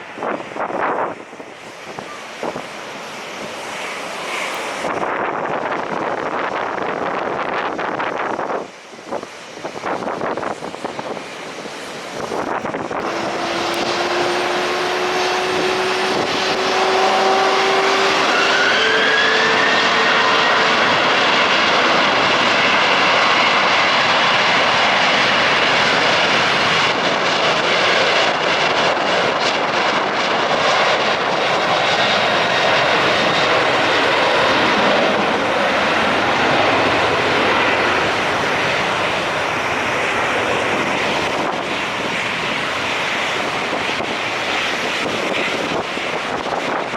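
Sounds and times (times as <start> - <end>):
jet engines whining at high power: 0.0 - 46.9.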